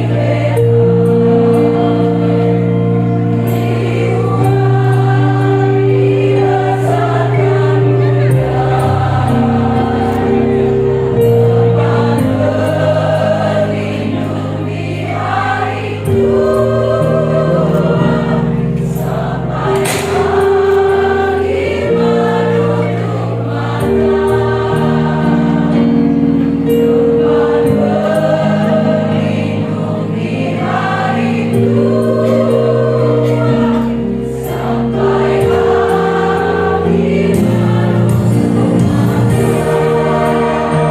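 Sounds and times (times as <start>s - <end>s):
women's choir singing: 0.0s - 40.9s.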